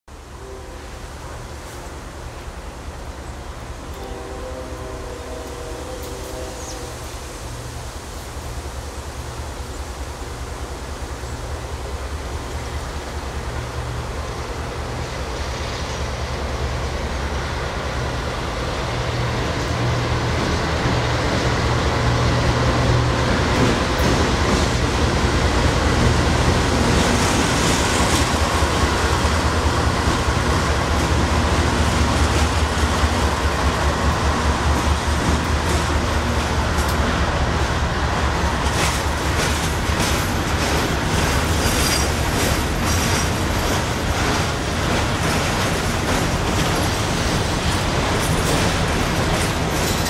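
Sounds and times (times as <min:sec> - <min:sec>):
diesel locomotive engines droning: 0:00.1 - 0:50.0
train wheels rumbling on rail: 0:00.1 - 0:50.0.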